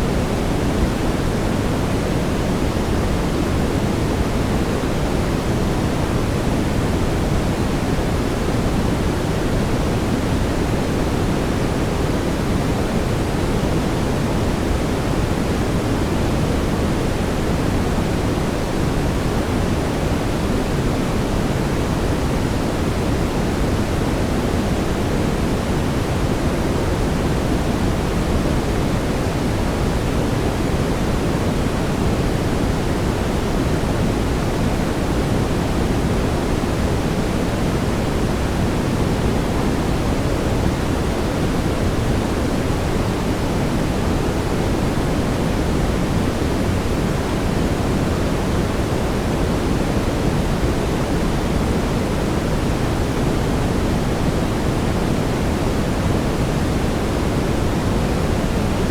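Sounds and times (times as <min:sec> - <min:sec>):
deep brown noise hiss: 0:00.0 - 0:58.9.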